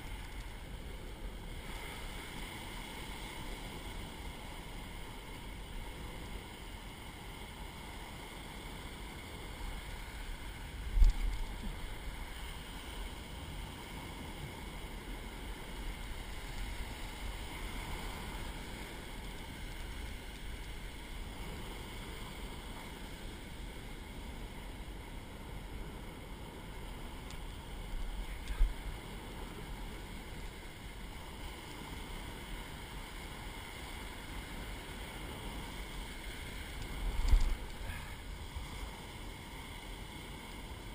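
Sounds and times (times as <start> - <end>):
surf breaking on beach: 0.0 - 40.9
wind on microphone: 0.0 - 40.9.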